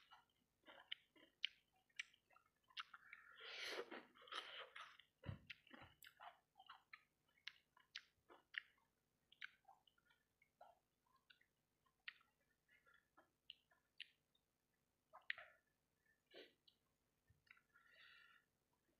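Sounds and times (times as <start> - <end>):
close-up chewing with wet smacks: 0.0 - 14.5, 15.1 - 17.7.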